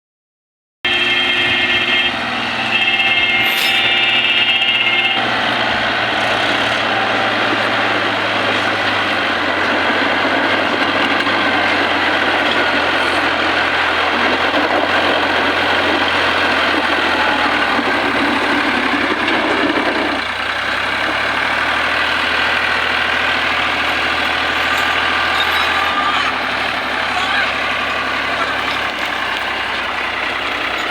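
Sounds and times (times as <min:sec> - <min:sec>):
heavy diesel engine running: 0:00.9 - 0:30.9.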